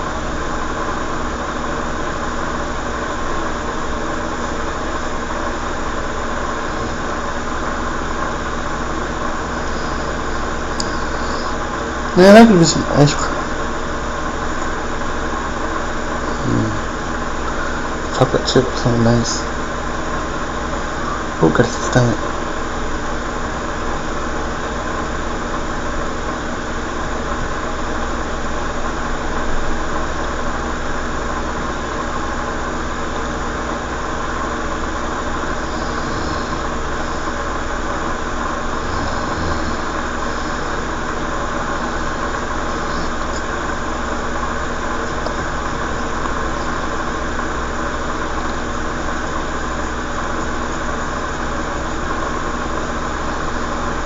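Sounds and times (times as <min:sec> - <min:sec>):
motor humming: 0:00.0 - 0:54.0.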